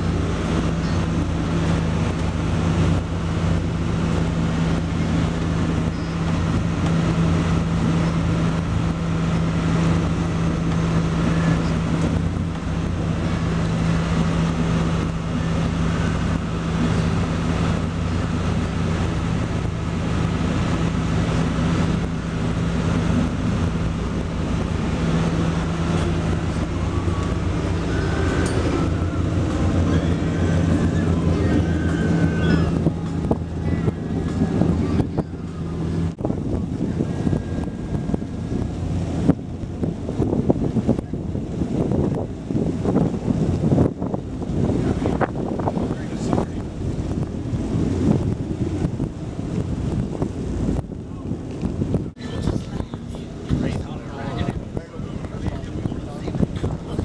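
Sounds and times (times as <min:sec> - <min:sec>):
low hum of ship machinery: 0:00.0 - 0:57.0
wind buffeting microphone: 0:00.0 - 0:57.0.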